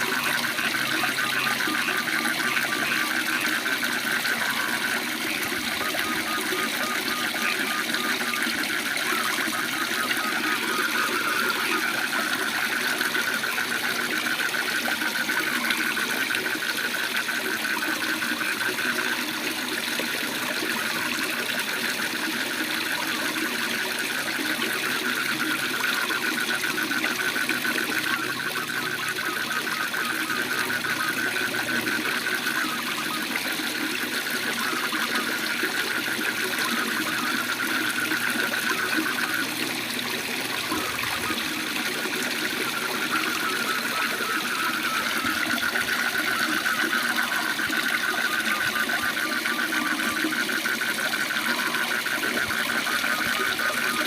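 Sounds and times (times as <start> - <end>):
frogs trilling: 0.0 - 54.0.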